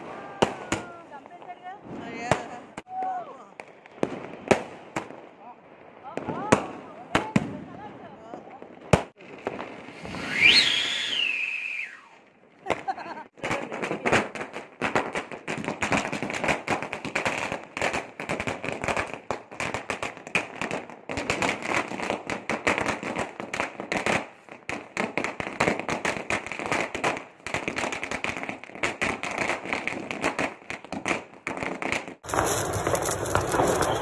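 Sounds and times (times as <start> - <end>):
firecrackers bursting: 0.0 - 2.9, 3.6 - 5.4, 8.6 - 34.0.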